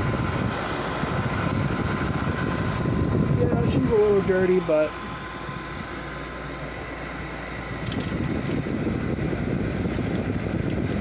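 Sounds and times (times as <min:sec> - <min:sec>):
air conditioner fan humming: 0:00.0 - 0:11.0
faint steady whine: 0:00.0 - 0:11.0.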